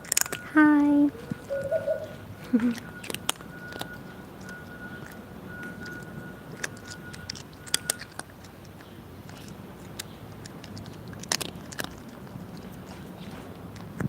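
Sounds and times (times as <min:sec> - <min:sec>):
cats chewing and crunching food: 0:00.0 - 0:14.0.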